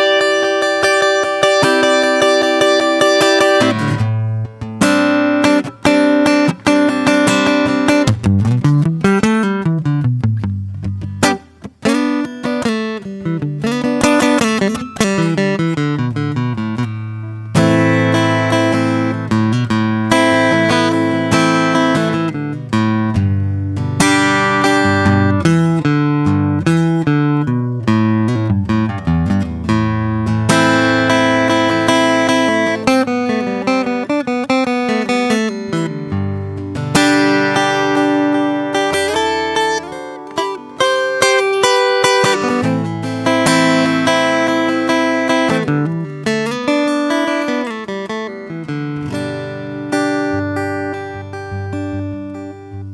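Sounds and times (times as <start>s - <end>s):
acoustic guitar playing: 0.0s - 52.9s.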